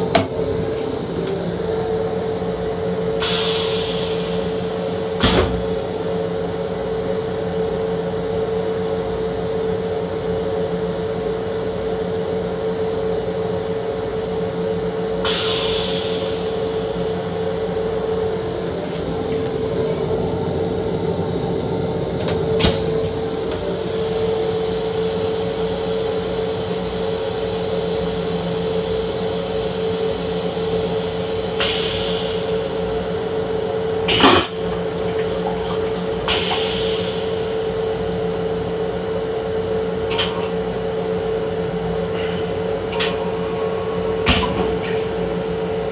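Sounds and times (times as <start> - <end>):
constant hum: 0.0 - 45.9
train car rumble: 0.0 - 45.9.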